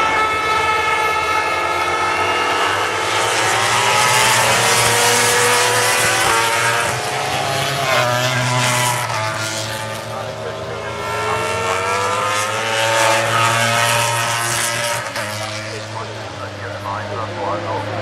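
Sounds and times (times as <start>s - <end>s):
racing motorcycle engines howling past: 0.0s - 18.0s.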